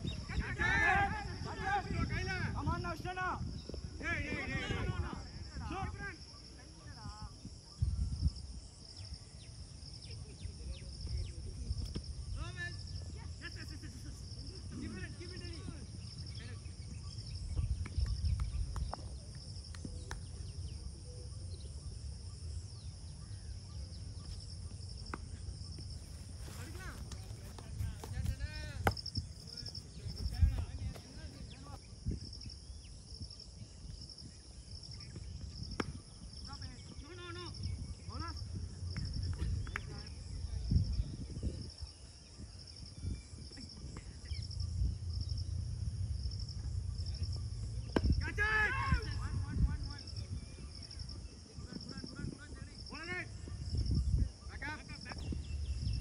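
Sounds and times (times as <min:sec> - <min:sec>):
insects chirring: 0:00.0 - 0:56.0
wind rumbling on microphone: 0:00.0 - 0:56.0.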